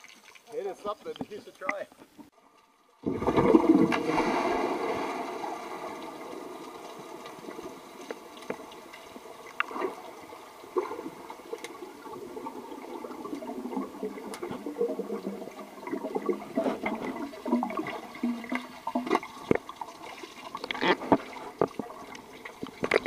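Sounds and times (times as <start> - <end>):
underwater bubbling and gurgling: 2.1 - 23.0.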